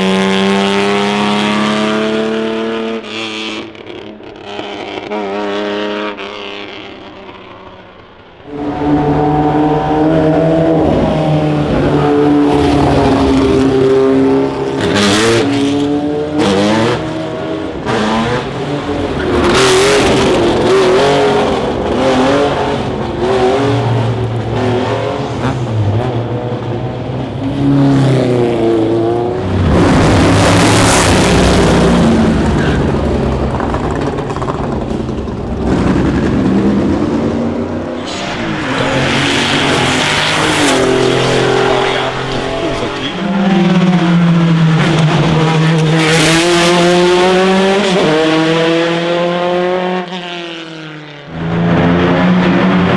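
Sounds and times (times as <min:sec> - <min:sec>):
racing car engines revving past: 0:00.0 - 0:52.9.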